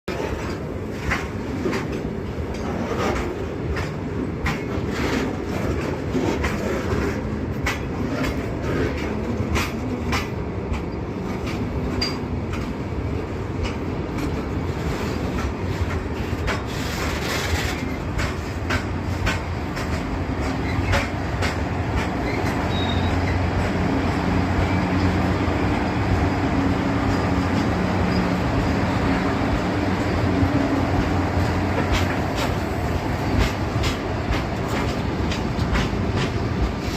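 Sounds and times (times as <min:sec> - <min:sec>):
electric locomotive hum: 0:00.1 - 0:36.9
train wheels clicking over rail joints: 0:00.1 - 0:36.9.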